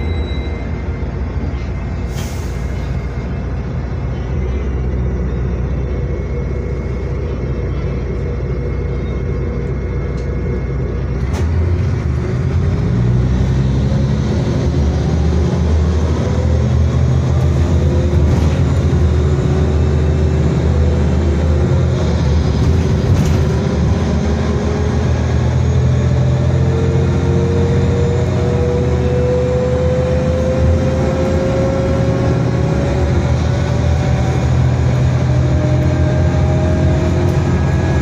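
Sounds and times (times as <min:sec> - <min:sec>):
bus diesel engine accelerating: 0:00.0 - 0:38.0.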